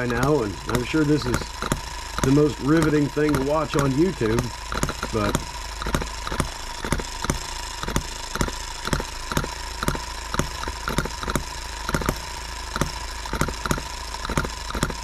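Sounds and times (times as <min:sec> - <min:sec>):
model engine chugging: 0:00.0 - 0:15.0
steady whine: 0:00.0 - 0:15.0.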